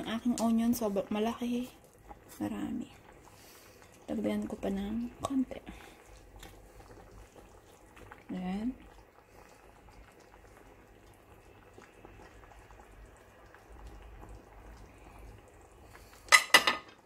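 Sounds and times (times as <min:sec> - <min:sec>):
stew bubbling in a pan: 0:00.0 - 0:17.0.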